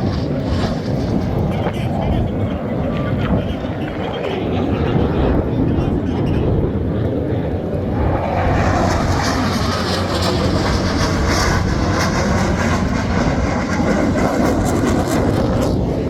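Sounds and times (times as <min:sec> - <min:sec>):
jet aircraft roaring in flight: 0:00.0 - 0:16.0.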